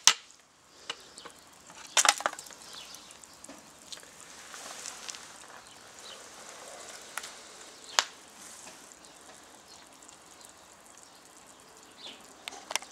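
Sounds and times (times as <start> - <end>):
light sizzle: 0.0 - 12.9
sharp fire snaps: 0.0 - 12.9
wood fire crackling: 0.0 - 12.9.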